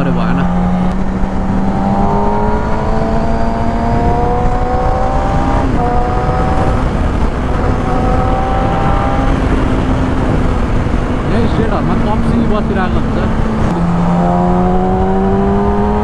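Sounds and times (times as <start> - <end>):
motorcycle engine accelerating: 0.0 - 16.0
wind on microphone: 0.0 - 16.0.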